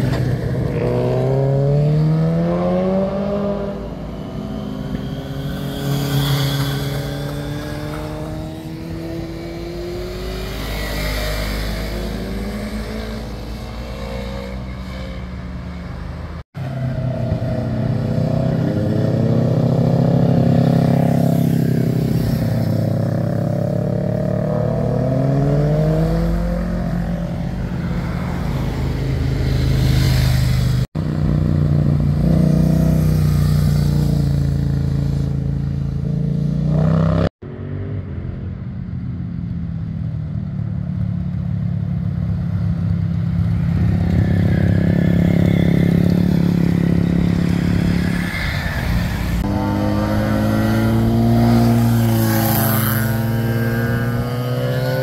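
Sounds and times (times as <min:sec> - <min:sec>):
cars passing: 0:00.0 - 0:55.0
motorcycle engines revving: 0:00.0 - 0:55.0.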